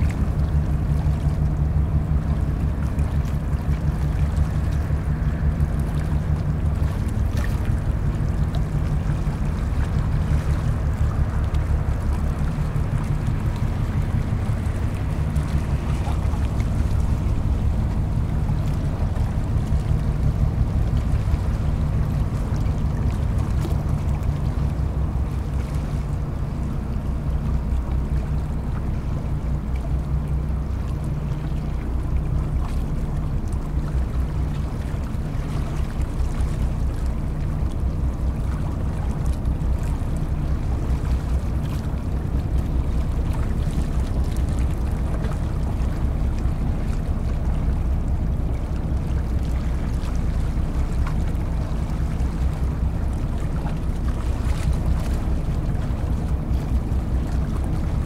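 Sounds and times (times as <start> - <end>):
tugboat diesel engines droning: 0.0 - 58.0.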